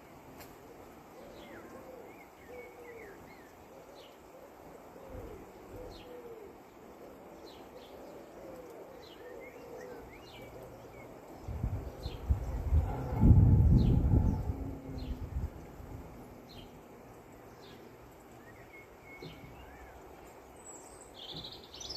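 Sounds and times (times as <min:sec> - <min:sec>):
birds cooing: 0:00.0 - 0:21.9.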